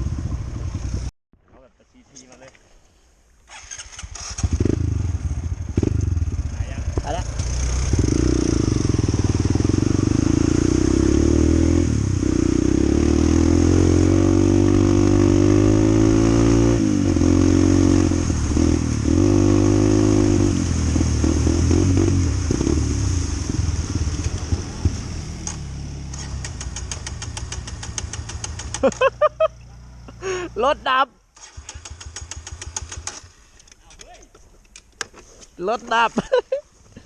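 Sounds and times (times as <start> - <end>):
motorcycle engine revving: 0.0 - 1.1, 3.5 - 30.7, 31.4 - 33.3.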